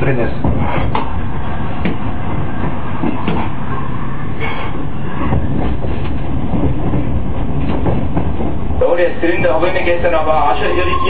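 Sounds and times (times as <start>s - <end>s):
metro train rumbling on track: 0.0s - 11.0s.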